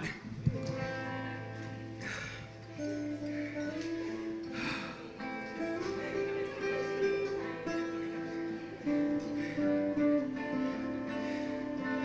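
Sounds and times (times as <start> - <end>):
live band playing sustained notes: 0.4 - 12.0.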